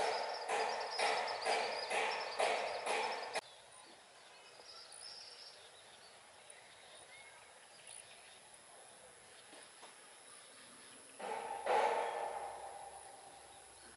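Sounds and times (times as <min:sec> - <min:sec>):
low outdoor hiss: 0:02.4 - 0:13.9.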